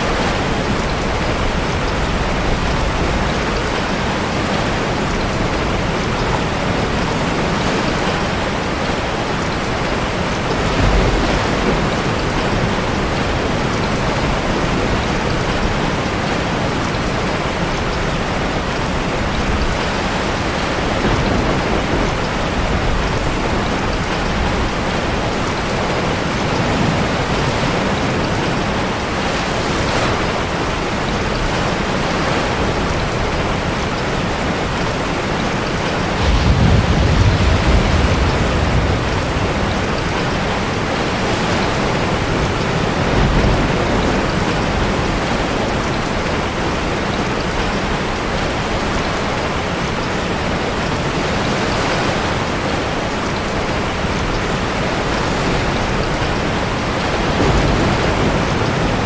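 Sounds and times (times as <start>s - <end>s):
heavy rain: 0.0s - 59.0s
sea surf: 0.0s - 59.0s.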